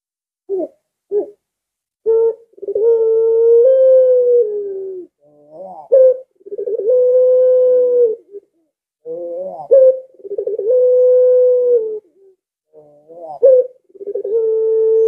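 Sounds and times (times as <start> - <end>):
dove cooing: 0.5 - 1.4, 2.0 - 15.0.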